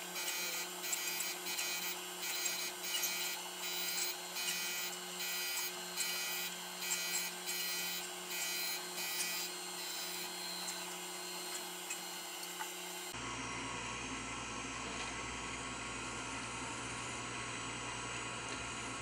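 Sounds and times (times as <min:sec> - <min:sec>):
motor hum: 0:00.0 - 0:19.0.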